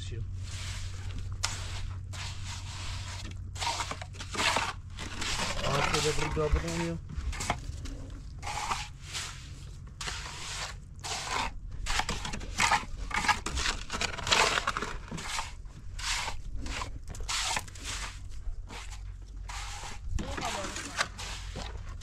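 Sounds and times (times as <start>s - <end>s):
trowel smoothing wet cement: 0.4s - 7.6s, 8.4s - 22.0s
hoe mixing mortar in wheelbarrow: 0.4s - 22.0s.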